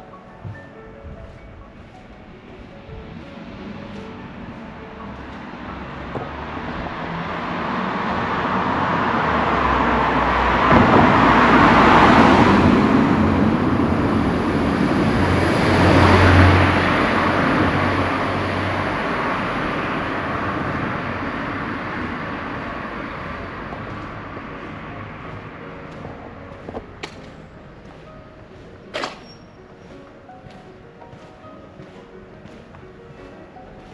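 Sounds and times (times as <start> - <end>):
road vehicles passing: 0.0 - 33.9.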